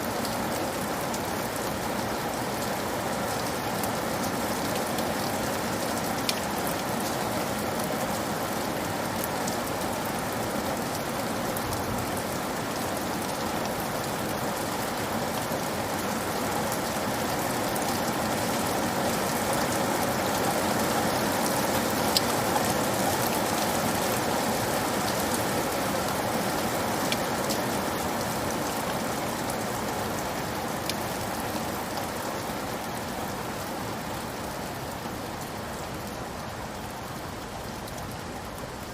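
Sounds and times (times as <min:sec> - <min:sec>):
rain pattering on a roof: 0:00.0 - 0:38.9.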